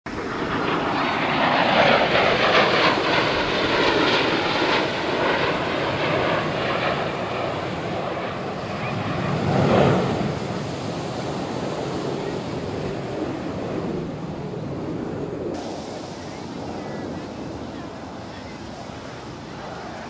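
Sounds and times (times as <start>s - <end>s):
jet engines roaring past: 0.1s - 20.0s.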